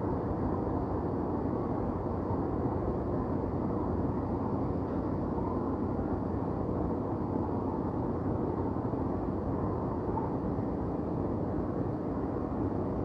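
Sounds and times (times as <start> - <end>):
low rumble of city ambience: 0.0 - 13.0.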